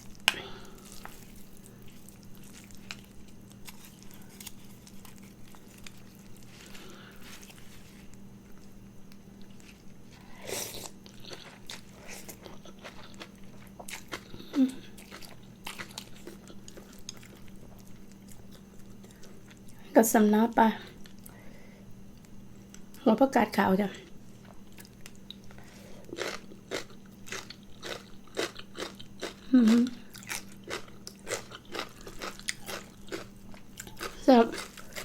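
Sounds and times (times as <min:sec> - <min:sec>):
person chewing noodles: 0:00.0 - 0:08.8, 0:09.4 - 0:19.8, 0:24.4 - 0:35.0
steady low hum: 0:00.0 - 0:35.0.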